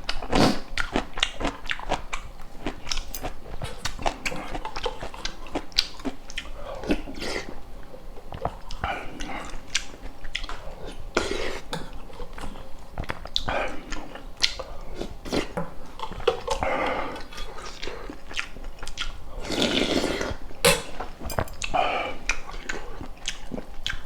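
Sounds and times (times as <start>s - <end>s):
chewing and biting: 0.0s - 7.6s, 11.8s - 24.0s.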